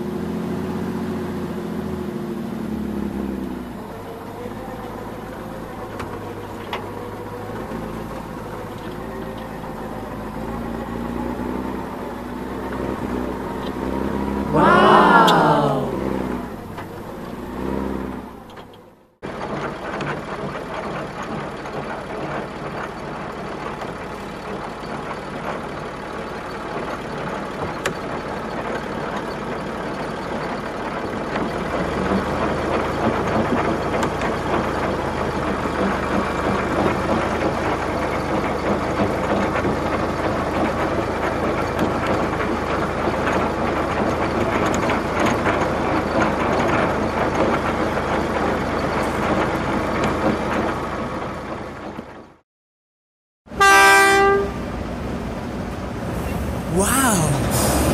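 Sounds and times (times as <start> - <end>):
heavy vehicle engine running: 0.0 - 52.3, 53.6 - 57.9.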